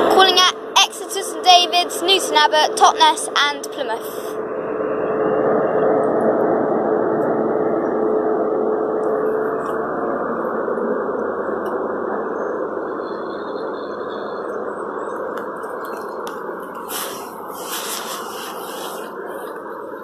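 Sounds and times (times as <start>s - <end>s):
diesel train rumbling: 0.0s - 20.0s.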